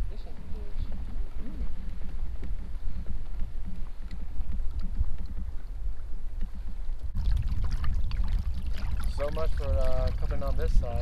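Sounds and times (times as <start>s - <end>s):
water ticks: 0.0s - 11.0s
wind rumbling on microphone: 0.0s - 11.0s.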